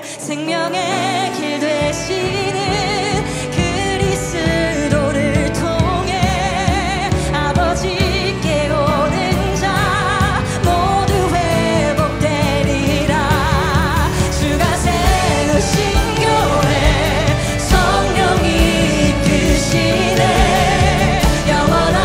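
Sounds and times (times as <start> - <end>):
singers holding long notes: 0.0 - 22.0
full band playing: 0.1 - 22.0.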